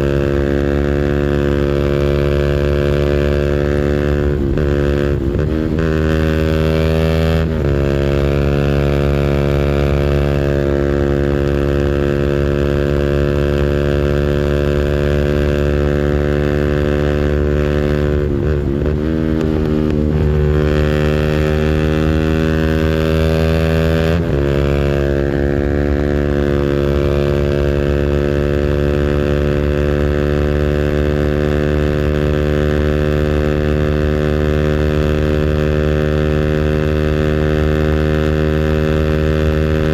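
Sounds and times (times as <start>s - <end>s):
engine revving on rev limiter: 1.3s - 39.9s.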